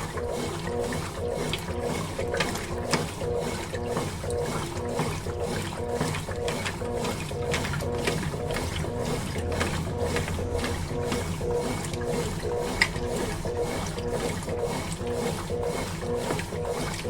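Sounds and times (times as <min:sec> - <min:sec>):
washing machine agitating: 0:00.0 - 0:17.0.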